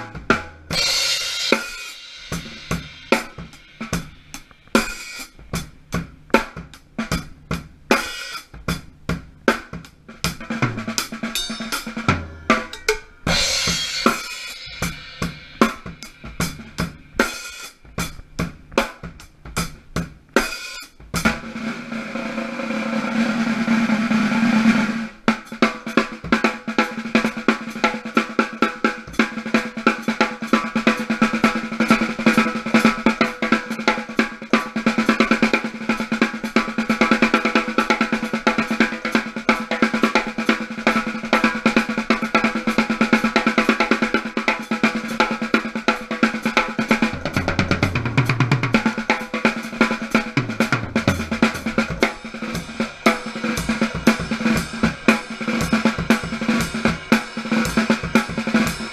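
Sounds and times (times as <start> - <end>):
fast snare drumming: 0.0 - 58.9.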